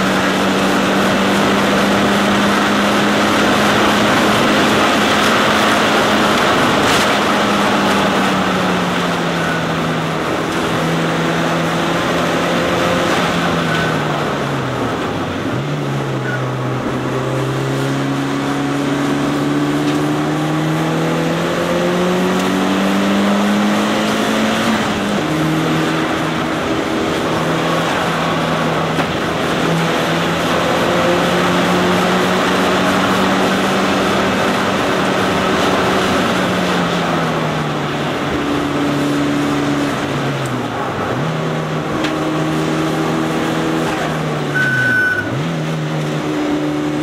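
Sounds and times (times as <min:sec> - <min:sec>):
road and wind noise: 0:00.0 - 0:47.0
turbocharged car engine: 0:00.0 - 0:47.0.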